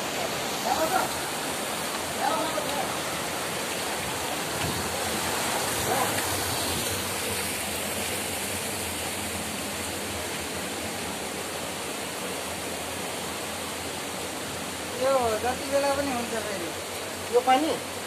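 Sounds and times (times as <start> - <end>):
water rushing over boulders: 0.0 - 18.0.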